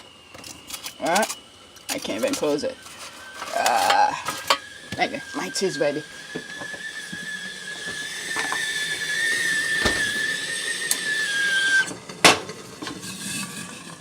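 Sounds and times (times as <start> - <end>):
kettle whistling: 0.0 - 14.0.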